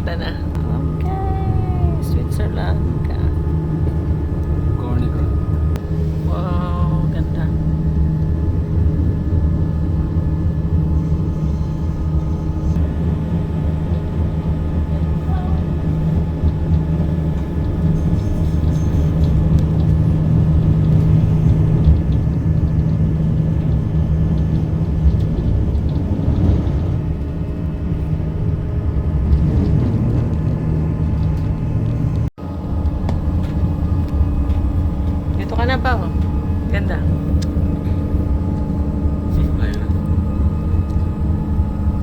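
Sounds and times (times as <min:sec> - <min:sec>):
electric train rumbling on track: 0:00.0 - 0:42.0.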